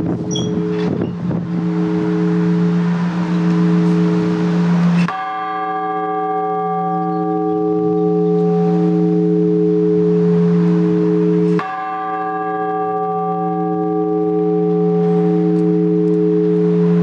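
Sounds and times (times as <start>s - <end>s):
deep bell humming: 0.0s - 17.0s.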